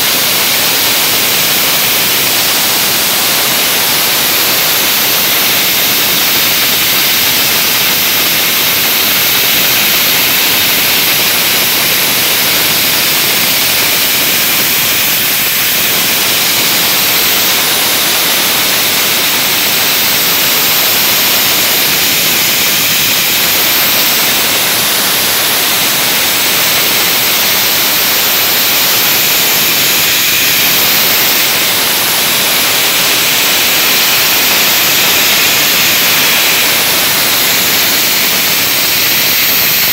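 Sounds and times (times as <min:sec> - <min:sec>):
dry-ice blasting gun hissing: 0:00.0 - 0:39.9.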